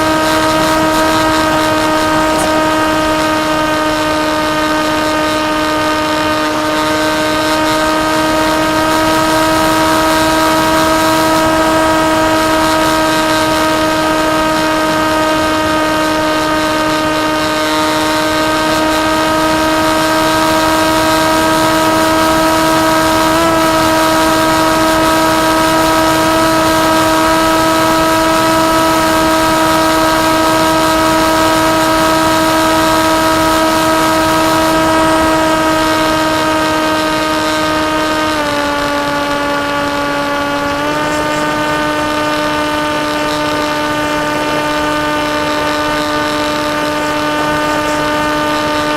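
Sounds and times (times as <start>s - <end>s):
electric motor and propeller whining: 0.0s - 48.9s
wind noise: 0.0s - 48.9s.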